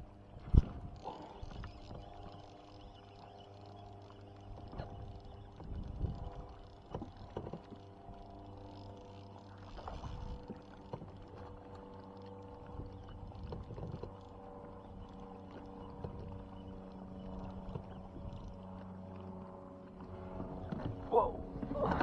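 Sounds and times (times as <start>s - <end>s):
boat motor running: 0.0s - 22.0s.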